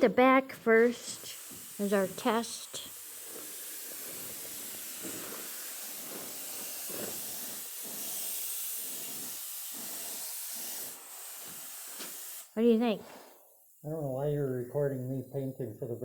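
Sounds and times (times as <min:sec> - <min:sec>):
paint spray gun hissing: 0:00.6 - 0:13.9.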